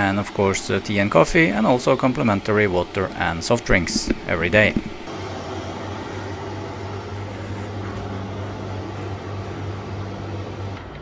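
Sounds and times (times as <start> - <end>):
air conditioner hum: 0.0 - 11.0.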